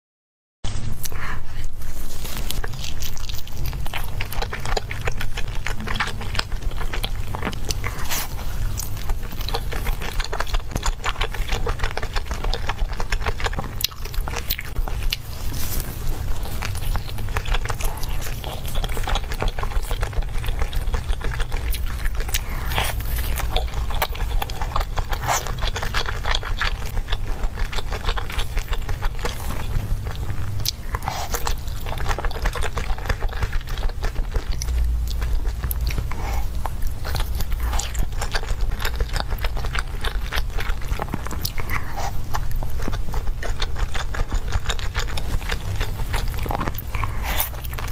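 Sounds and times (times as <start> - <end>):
low rumble: 0.7 - 47.9
person chewing crunchy food: 0.7 - 47.9.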